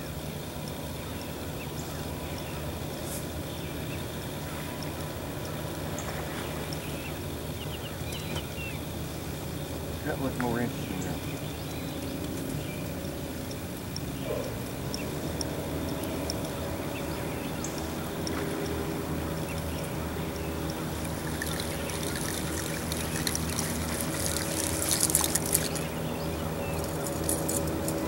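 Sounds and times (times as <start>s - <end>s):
steady low hum: 0.0s - 28.0s
water trickling and splashing: 0.0s - 28.0s.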